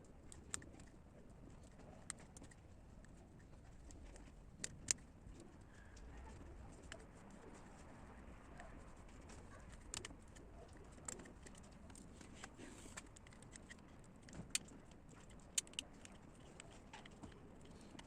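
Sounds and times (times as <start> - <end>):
light clicks of small objects: 0.2 - 18.0.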